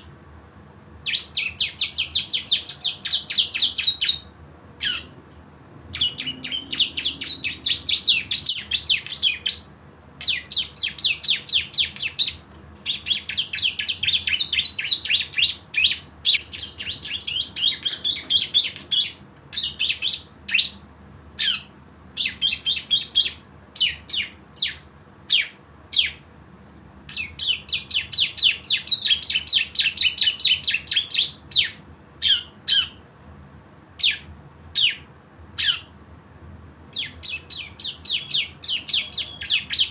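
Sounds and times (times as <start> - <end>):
bird singing rattling song: 1.0 - 26.2, 27.1 - 33.0, 34.0 - 36.0, 36.9 - 39.9.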